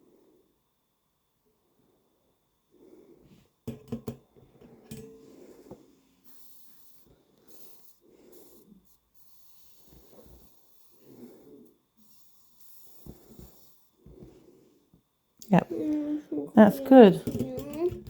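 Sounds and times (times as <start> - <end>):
soft breathing: 1.6 - 3.6, 4.5 - 17.0.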